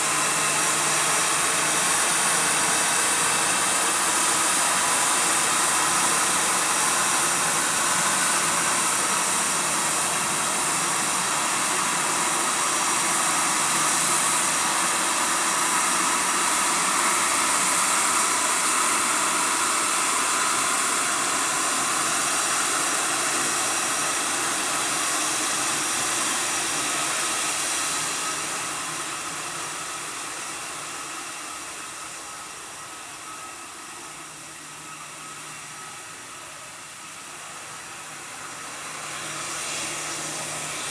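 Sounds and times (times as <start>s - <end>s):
jet engines hissing and whining: 0.0s - 40.9s.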